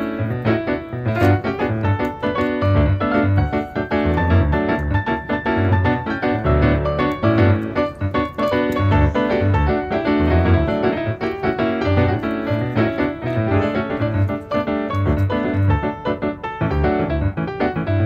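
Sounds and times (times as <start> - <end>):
piano background music: 0.0 - 18.0.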